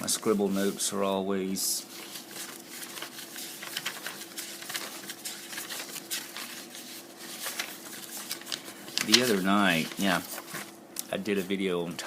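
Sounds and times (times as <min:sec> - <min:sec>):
faint electrical hum: 0:00.0 - 0:12.0
paper notes rustling: 0:00.0 - 0:12.0.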